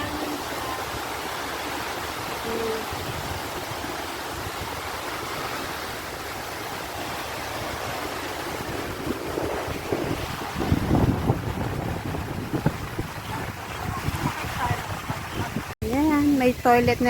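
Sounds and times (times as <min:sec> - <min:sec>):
strong wind: 0:00.0 - 0:17.0
surf: 0:00.0 - 0:17.0
wind buffeting microphone: 0:00.0 - 0:17.0.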